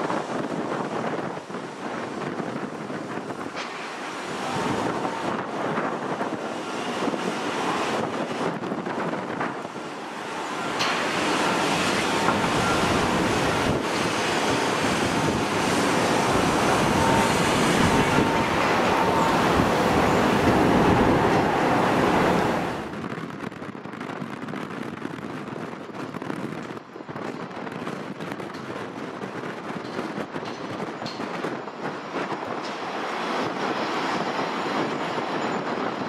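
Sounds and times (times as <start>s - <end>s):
jet engines roaring: 0.0s - 23.5s, 29.9s - 36.0s
wind buffeting microphone: 0.0s - 36.0s.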